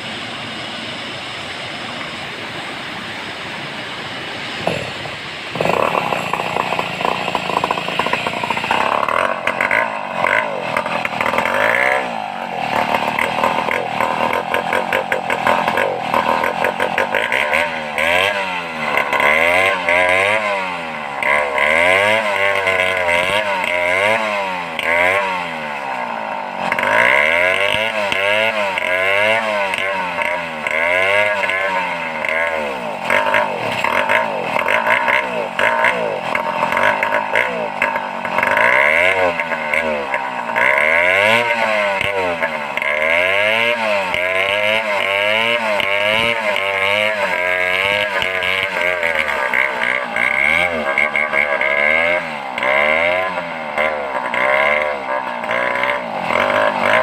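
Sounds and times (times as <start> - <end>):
chainsaw running and revving: 0.0 - 57.0.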